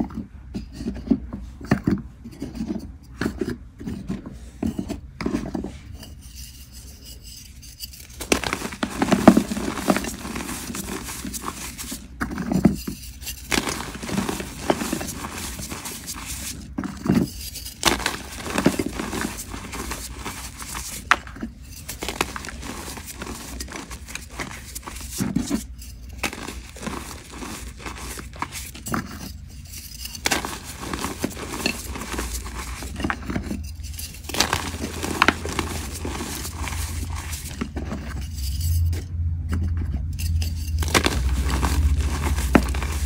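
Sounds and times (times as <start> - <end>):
chalk crunching by hand: 5.7 - 38.6, 40.5 - 43.0.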